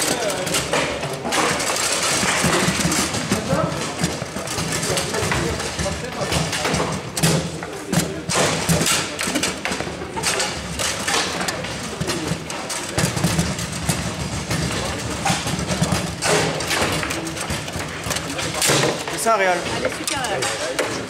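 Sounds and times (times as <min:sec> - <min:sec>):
voices chattering: 0:00.0 - 0:21.0.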